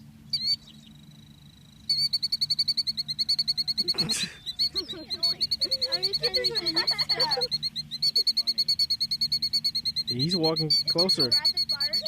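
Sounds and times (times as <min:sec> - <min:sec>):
bird shrill alarm calls: 0:00.3 - 0:12.0.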